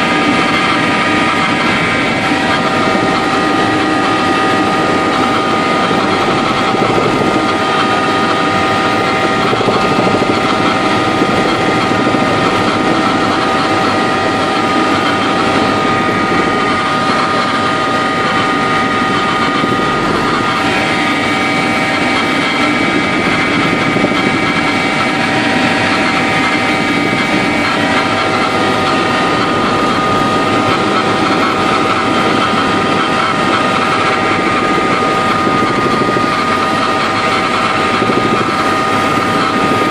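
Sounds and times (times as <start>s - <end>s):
helicopter engine and rotor noise: 0.0s - 39.9s
high whine: 0.0s - 39.9s.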